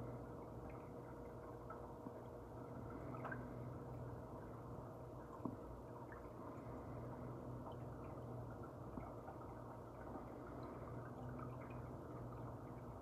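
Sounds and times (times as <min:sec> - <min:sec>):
small ticks and drips: 0:00.0 - 0:13.0
water trickling: 0:00.0 - 0:13.0.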